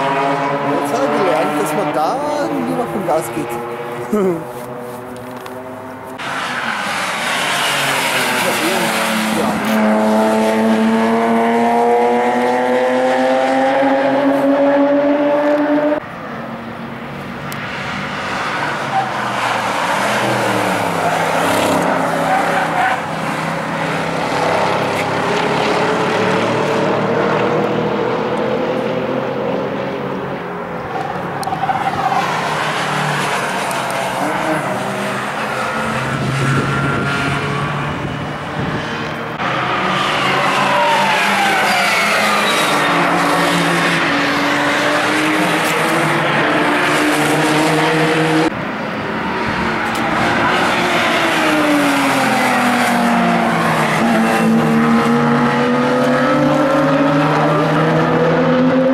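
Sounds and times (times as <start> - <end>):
cars passing by: 0.0 - 58.9
race car engines accelerating: 0.0 - 58.9.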